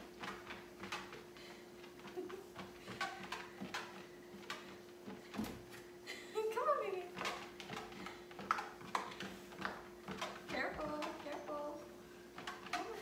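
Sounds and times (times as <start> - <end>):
puppy paws tapping on belt: 0.0 - 5.9, 6.6 - 13.0
treadmill motor humming: 0.0 - 13.0.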